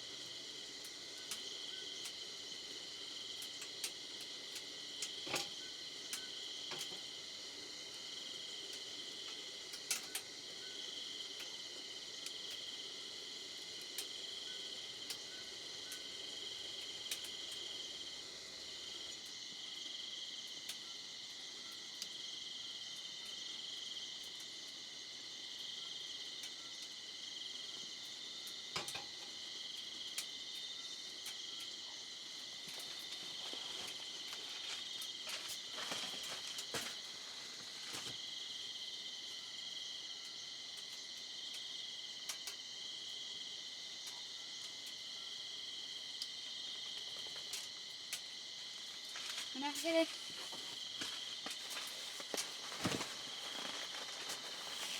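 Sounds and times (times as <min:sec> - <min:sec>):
night insects chirring: 0:00.0 - 0:54.9.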